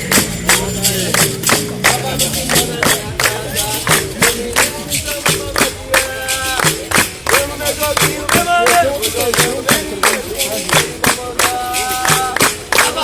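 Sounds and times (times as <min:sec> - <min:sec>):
berimbau: 0:00.0 - 0:13.0
hand claps: 0:00.0 - 0:13.0
pandeiro rhythm: 0:00.0 - 0:13.0
voices singing: 0:00.0 - 0:13.0.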